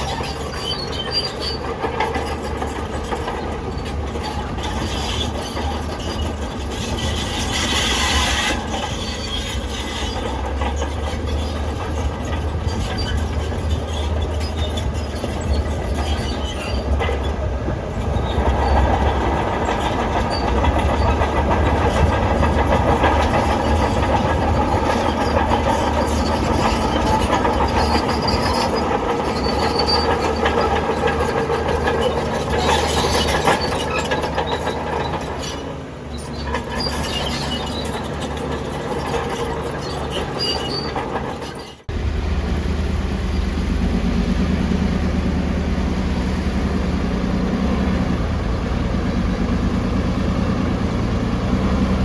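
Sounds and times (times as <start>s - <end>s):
high squeal from tracks: 0.0s - 42.0s, 42.7s - 52.0s
diesel engine drone: 0.0s - 52.0s
steel tracks clanking: 0.0s - 52.0s.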